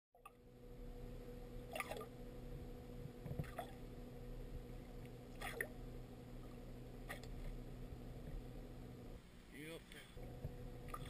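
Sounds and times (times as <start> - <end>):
faint low hum: 0.2 - 11.0.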